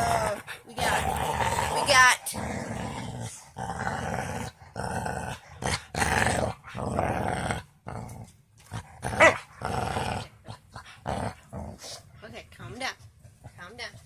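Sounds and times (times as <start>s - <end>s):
dogs growling: 0.0s - 12.3s.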